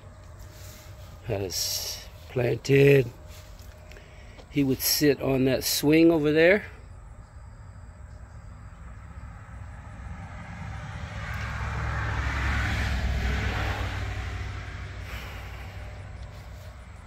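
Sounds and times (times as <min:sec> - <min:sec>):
passing vehicle hum and hiss: 0:00.0 - 0:07.2, 0:07.8 - 0:17.0.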